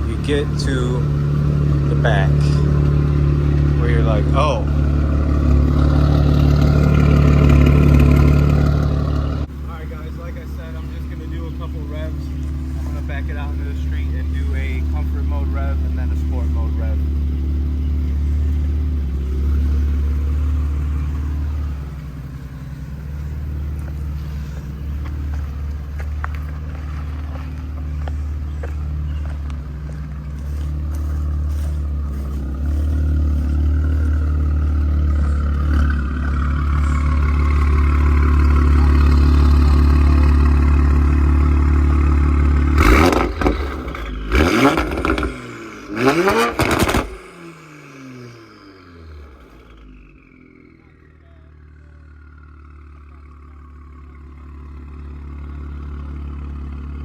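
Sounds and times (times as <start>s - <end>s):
car engine rumbling and revving: 0.0s - 57.0s.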